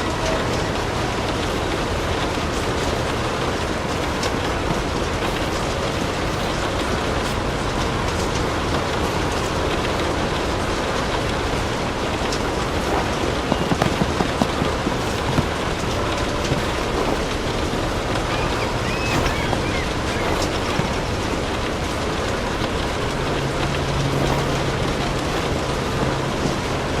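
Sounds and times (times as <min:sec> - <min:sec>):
steady rain falling: 0:00.0 - 0:27.0
wood fire crackling: 0:00.0 - 0:27.0.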